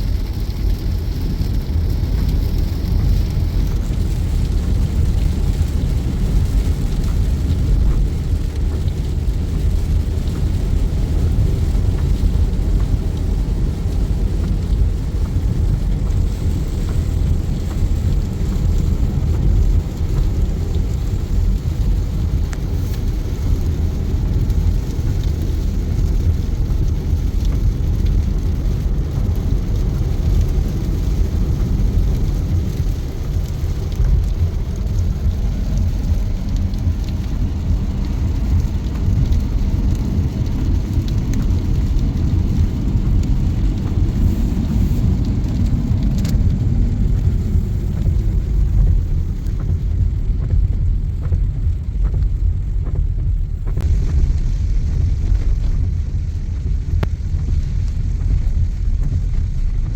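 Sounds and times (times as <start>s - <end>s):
rain and spray hissing on car: 0.0s - 59.9s
road and tyre noise: 0.0s - 59.9s.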